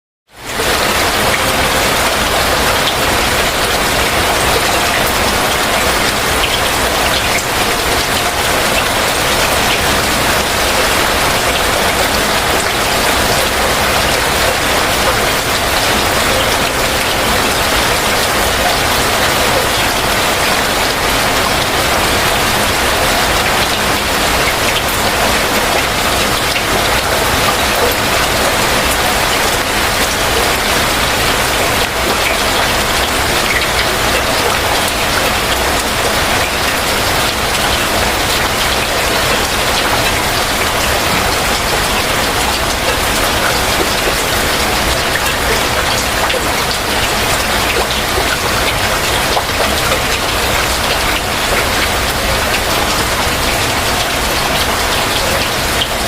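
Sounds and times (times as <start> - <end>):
heavy rain falling: 0.3 - 56.0.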